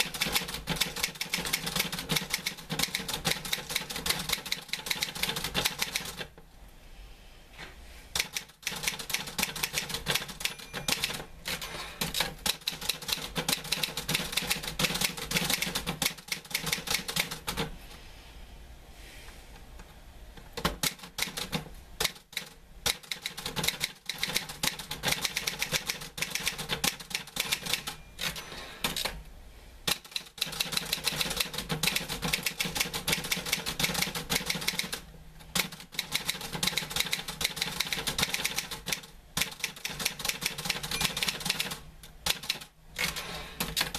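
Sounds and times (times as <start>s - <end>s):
typewriter typing: 0.0s - 6.3s, 8.1s - 17.7s, 20.6s - 29.2s, 29.9s - 43.9s.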